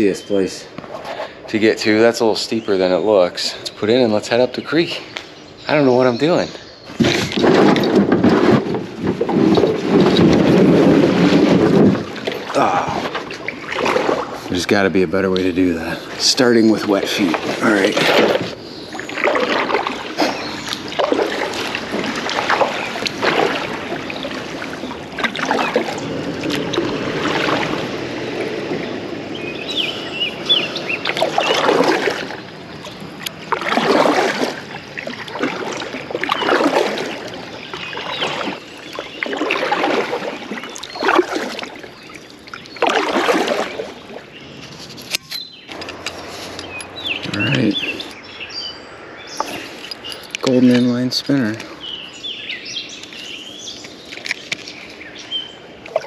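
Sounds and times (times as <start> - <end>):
paddle strokes in water: 6.9 - 48.2, 51.8 - 56.0.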